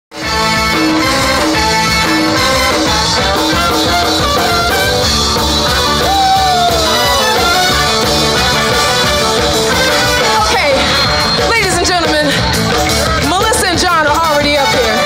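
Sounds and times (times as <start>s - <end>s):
live band with horns: 0.1s - 15.0s.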